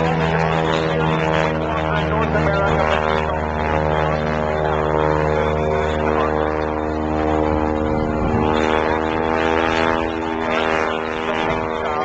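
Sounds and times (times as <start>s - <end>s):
propeller airplane engine drone: 0.0s - 12.0s.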